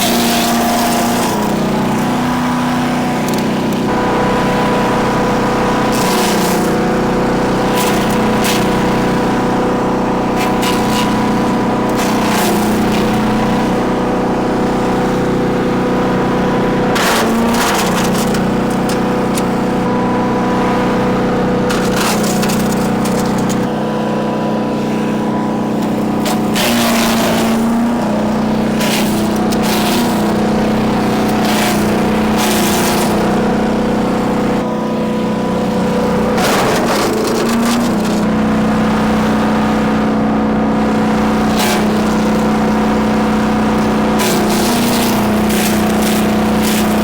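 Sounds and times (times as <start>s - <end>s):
branches cracking and grinding: 0.0s - 4.4s, 5.0s - 34.8s, 35.7s - 39.2s, 40.8s - 47.0s
wood chipper engine running: 0.0s - 47.0s.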